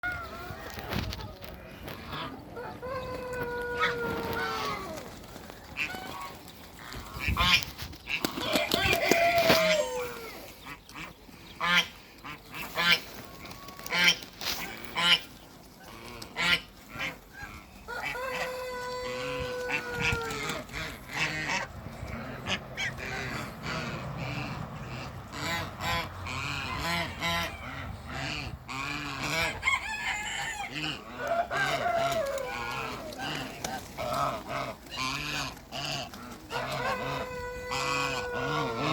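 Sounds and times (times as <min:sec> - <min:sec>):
ducks calling: 0:00.0 - 0:38.9
geese honking: 0:01.4 - 0:38.9.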